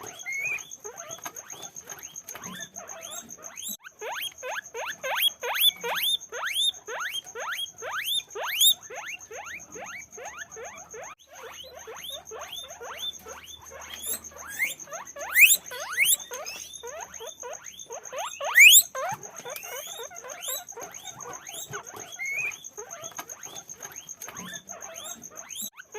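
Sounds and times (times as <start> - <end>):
guinea pigs wheeking: 0.0 - 25.9.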